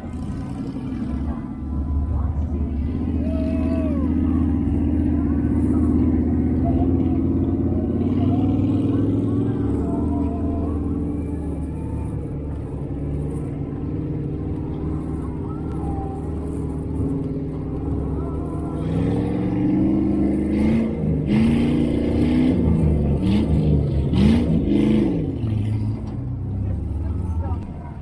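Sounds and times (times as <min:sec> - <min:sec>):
utility vehicle engine revving: 0:00.0 - 0:28.0.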